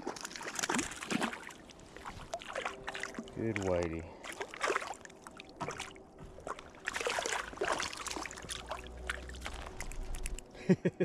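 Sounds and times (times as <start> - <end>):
river water splashing: 0.0 - 10.5.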